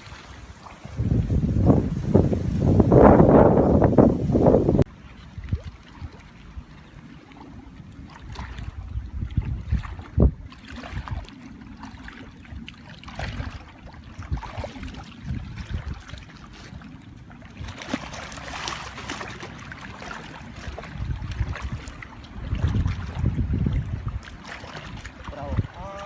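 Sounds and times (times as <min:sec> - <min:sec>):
shallow water sloshing and splashing: 0:00.0 - 0:26.0.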